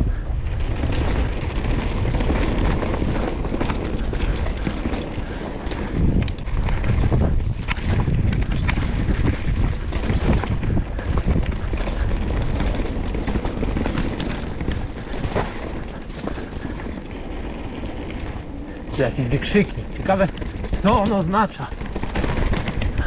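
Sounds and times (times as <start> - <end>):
bike rattling over roots: 0.0 - 23.0
bike tyres rumbling over dirt: 0.0 - 23.0.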